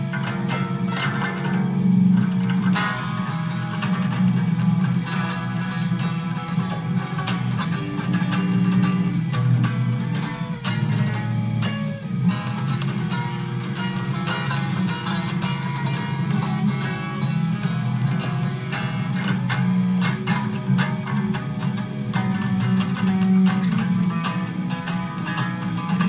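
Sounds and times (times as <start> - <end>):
guitar music: 0.0 - 26.0.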